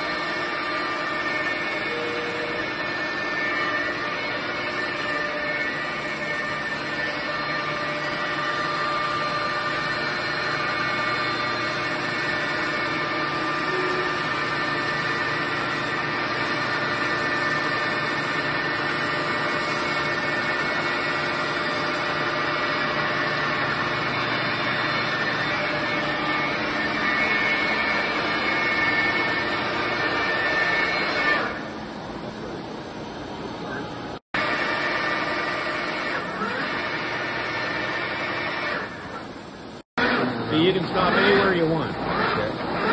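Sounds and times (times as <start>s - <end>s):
boring mill humming and whining: 0.0s - 42.9s.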